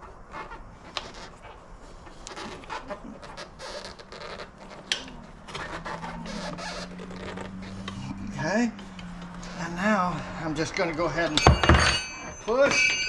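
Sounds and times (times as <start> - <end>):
tire bead creaking against rim: 0.0 - 13.0.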